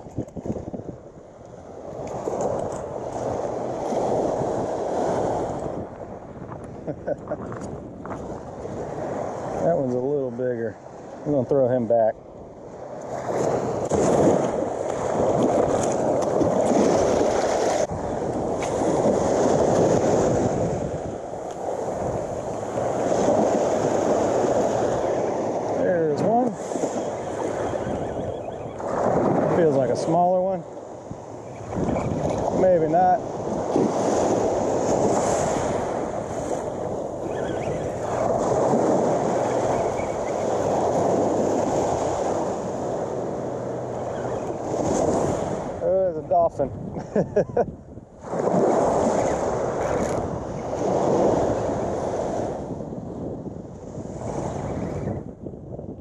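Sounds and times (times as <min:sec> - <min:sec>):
surf washing and waves breaking: 0:00.0 - 0:56.0
wind on microphone: 0:00.0 - 0:56.0.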